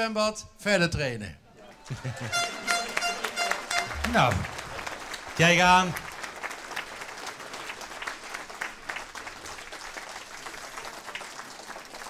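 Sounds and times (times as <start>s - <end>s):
crowd applauding: 1.8s - 12.0s.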